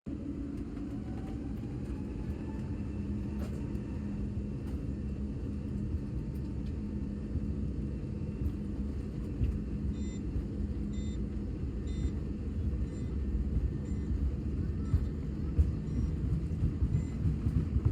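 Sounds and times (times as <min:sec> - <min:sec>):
aircraft cabin engine rumble: 0:00.1 - 0:17.9.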